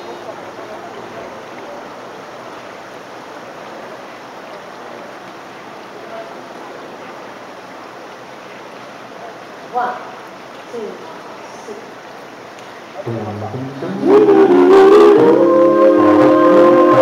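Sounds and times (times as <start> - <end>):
outdoor hubbub: 0.0 - 17.0.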